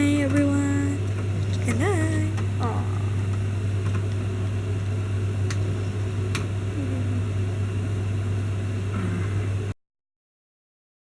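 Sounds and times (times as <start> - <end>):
motor humming: 0.0 - 9.8.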